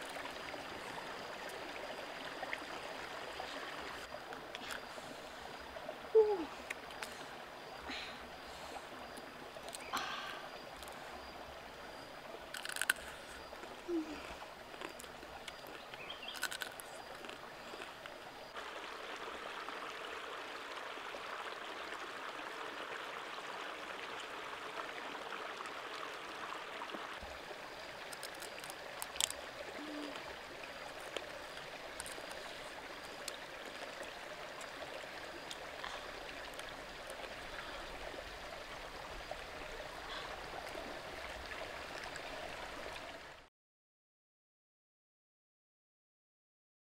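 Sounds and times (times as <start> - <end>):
stream flowing over rocks: 0.0 - 43.5.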